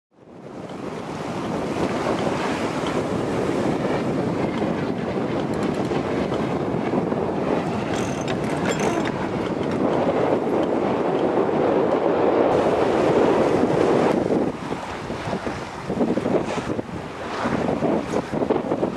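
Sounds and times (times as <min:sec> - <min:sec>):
water rushing along hull: 0:00.1 - 0:18.9
wind buffeting microphone: 0:00.2 - 0:18.9.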